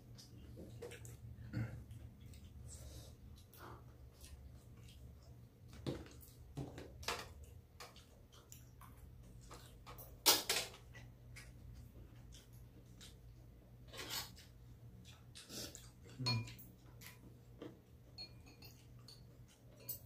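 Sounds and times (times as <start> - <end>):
chewing and mouth sounds: 0.0 - 10.2, 10.8 - 20.0
low steady hum: 0.0 - 20.0.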